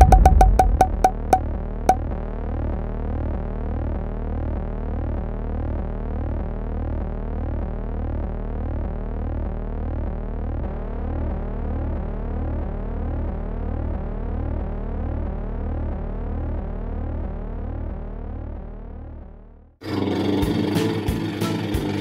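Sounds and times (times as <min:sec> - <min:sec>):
low pulsing hum: 0:00.0 - 0:22.0.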